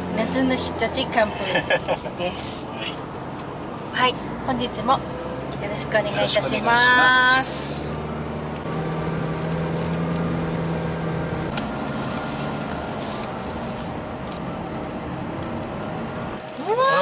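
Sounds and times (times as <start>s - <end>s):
engine hum: 0.0s - 17.0s
road noise inside car: 0.0s - 17.0s.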